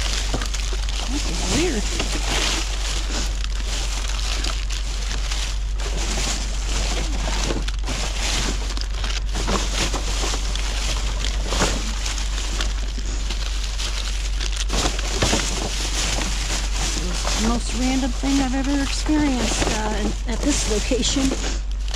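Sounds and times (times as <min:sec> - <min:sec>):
plastic packaging rustling: 0:00.0 - 0:21.9
steady low rumble: 0:00.0 - 0:21.9.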